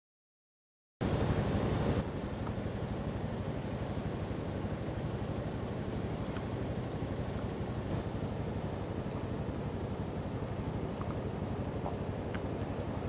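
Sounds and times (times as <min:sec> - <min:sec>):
boat engine droning: 0:01.0 - 0:13.0
even wash of noise: 0:01.0 - 0:13.0.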